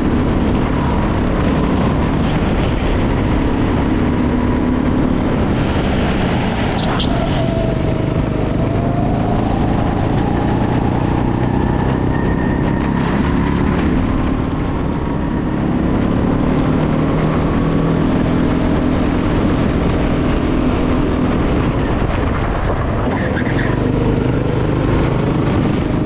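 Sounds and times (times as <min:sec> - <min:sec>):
go-kart engine at high revs: 0:00.0 - 0:26.0.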